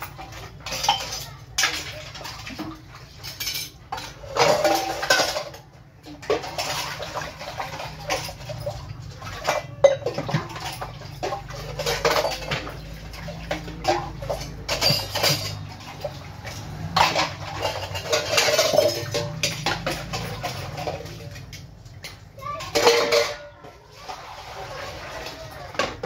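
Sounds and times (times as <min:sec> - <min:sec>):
metal dishes clinking: 0:00.0 - 0:24.2
scrubbing and scraping: 0:00.0 - 0:26.0.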